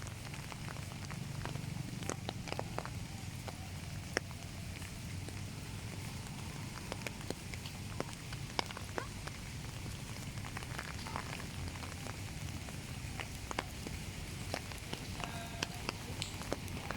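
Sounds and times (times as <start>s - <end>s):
rain patter: 0.0s - 16.9s
raindrops dripping: 0.0s - 16.9s.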